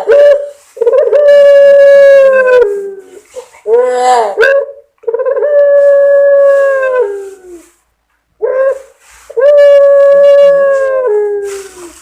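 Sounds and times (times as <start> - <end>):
dove cooing: 0.0 - 7.7, 8.4 - 12.0.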